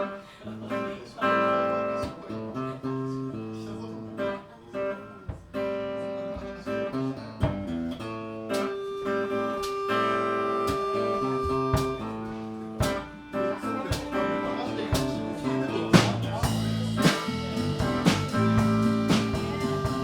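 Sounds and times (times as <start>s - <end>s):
guitar playing blues riff: 0.0s - 20.0s.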